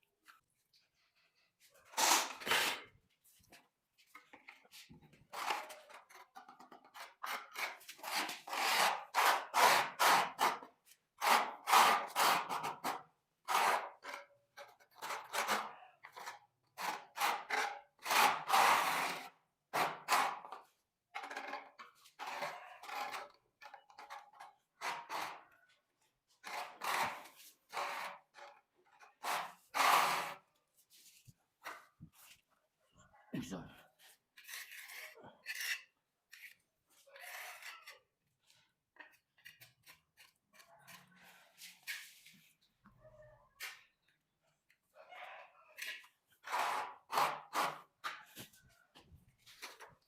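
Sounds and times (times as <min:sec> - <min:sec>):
hand tool scraping tile floor: 0:01.1 - 0:32.4, 0:34.0 - 0:42.7, 0:45.8 - 0:48.7, 0:49.4 - 0:50.0.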